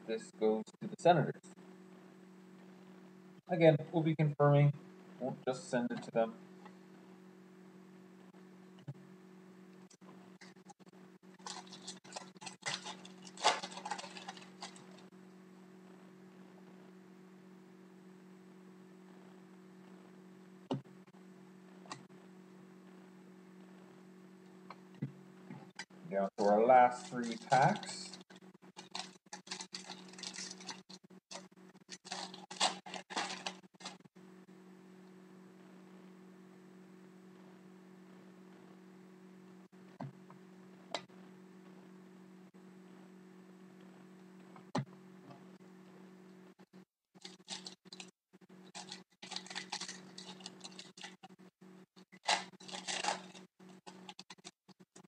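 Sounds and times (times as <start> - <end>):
low hum: 0.0 - 46.6.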